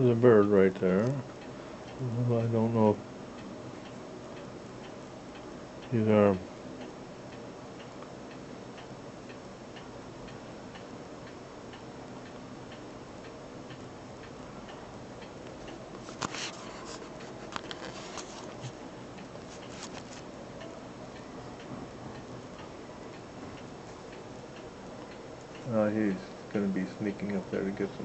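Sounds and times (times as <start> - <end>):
regular ticking: 0.0 - 16.1, 18.5 - 28.0.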